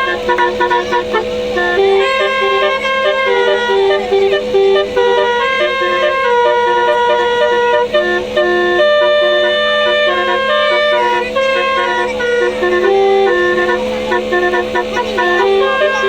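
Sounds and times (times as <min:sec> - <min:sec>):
truck horn playing melody: 0:00.0 - 0:16.0.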